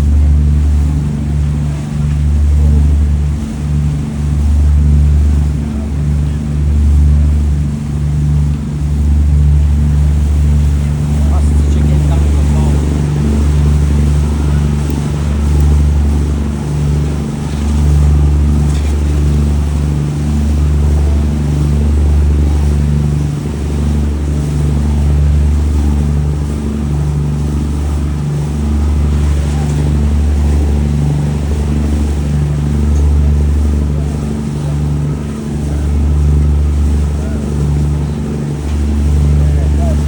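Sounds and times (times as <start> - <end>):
boat engine droning: 0.0 - 40.0.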